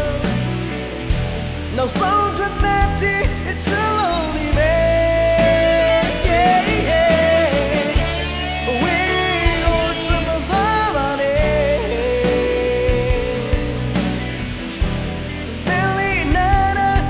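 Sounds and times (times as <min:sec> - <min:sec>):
man singing pop-rock song: 0:00.0 - 0:17.0
rock band backing: 0:00.0 - 0:17.0.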